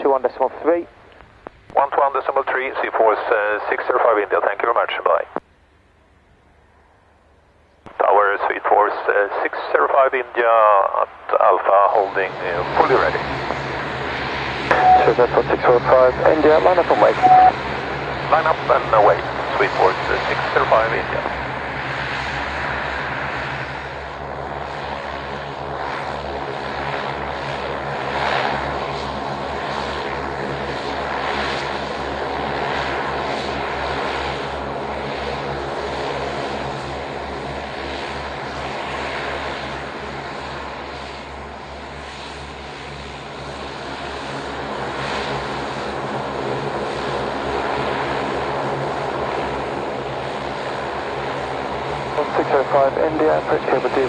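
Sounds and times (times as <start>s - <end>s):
propeller aircraft taxiing: 0.0s - 54.0s.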